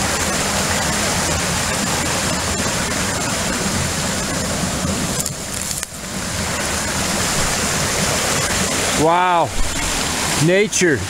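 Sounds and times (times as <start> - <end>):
creek water rushing over boulders: 0.0 - 11.0.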